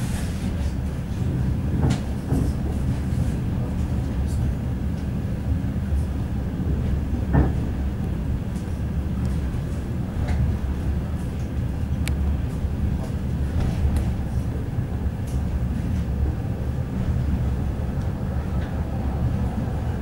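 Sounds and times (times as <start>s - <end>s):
train carriage rumbling: 0.0s - 20.0s.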